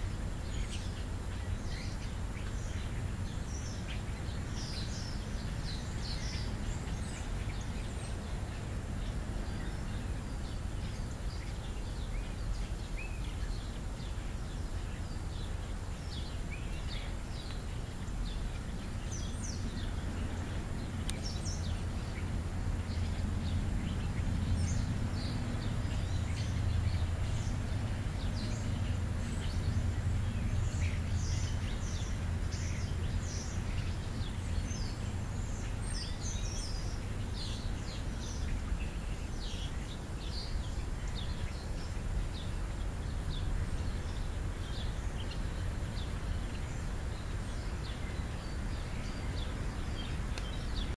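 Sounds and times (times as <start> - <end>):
low outdoor rumble: 0.0 - 50.9
small birds chirping: 0.0 - 50.9.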